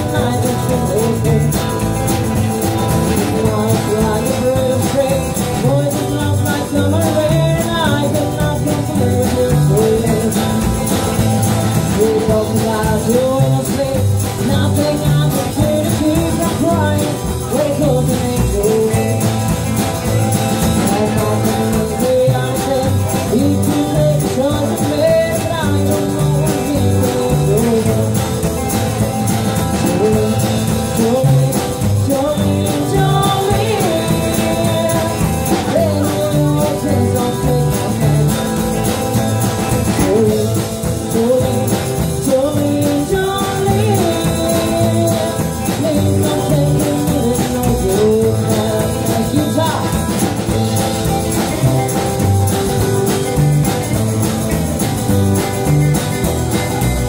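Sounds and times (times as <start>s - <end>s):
rockabilly band playing: 0.0s - 57.0s.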